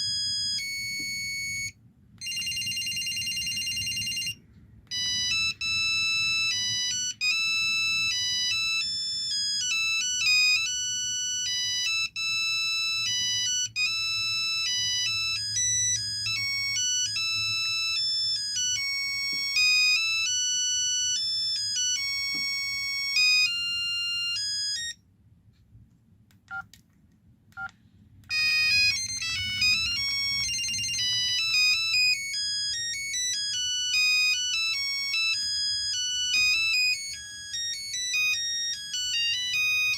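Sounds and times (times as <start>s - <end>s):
phone ringtone melody: 0.0s - 25.0s, 28.3s - 39.9s.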